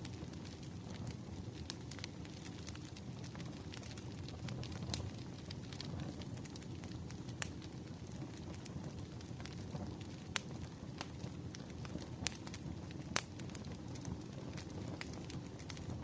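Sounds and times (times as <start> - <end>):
low steady rumble: 0.0 - 16.0
wood fire crackling and popping: 0.0 - 16.0.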